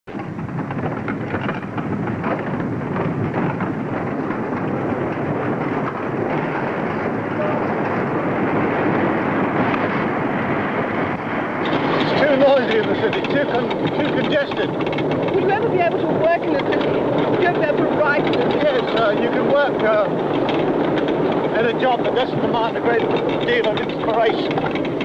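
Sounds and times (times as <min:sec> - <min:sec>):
roller coaster rumbling on track: 0:00.0 - 0:25.0.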